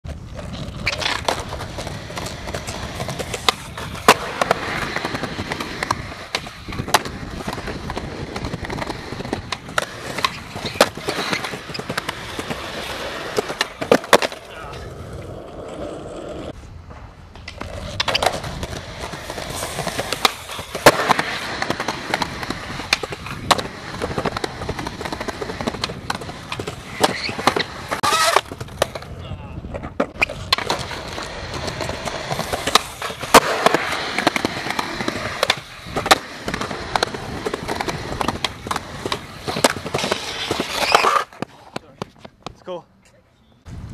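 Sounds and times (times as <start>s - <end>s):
skateboard grinding on concrete: 0.0s - 42.5s
skateboard tumbling: 0.0s - 42.6s
skateboard wheels rolling: 0.0s - 42.7s
skateboard pops and clacks: 0.2s - 14.5s, 16.9s - 42.6s.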